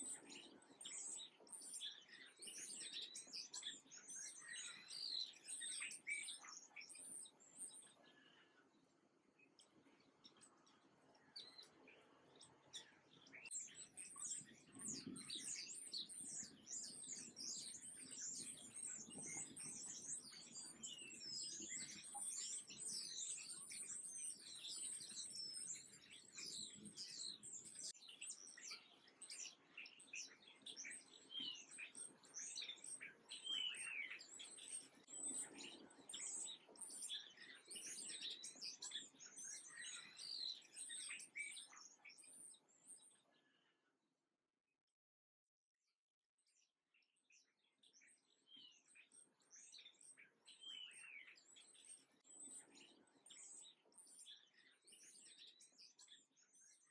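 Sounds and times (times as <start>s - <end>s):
songbirds chirping: 0.0s - 43.9s, 46.5s - 56.9s.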